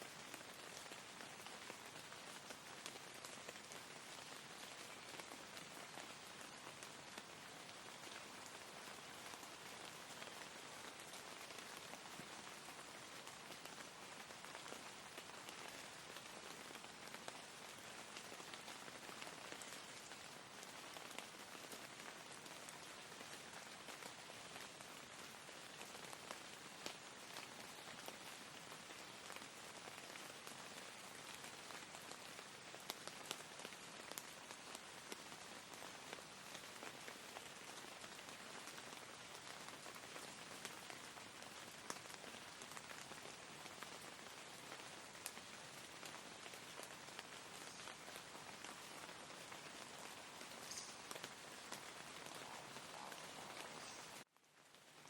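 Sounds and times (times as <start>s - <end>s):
soft rain falling: 0.0s - 55.0s
raindrops ticking: 0.1s - 55.0s.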